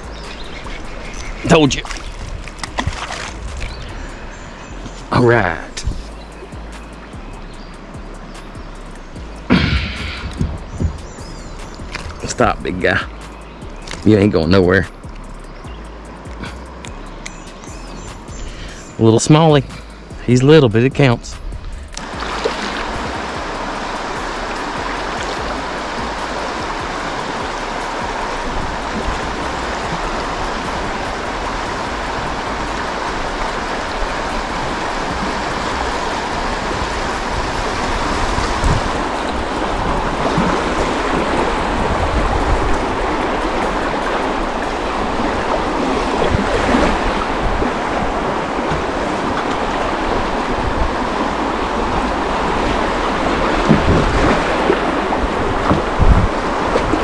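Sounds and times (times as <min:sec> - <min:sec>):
low thumps: 0:00.0 - 0:05.1, 0:08.0 - 0:14.1, 0:21.1 - 0:57.0
river water rushing: 0:00.0 - 0:57.0.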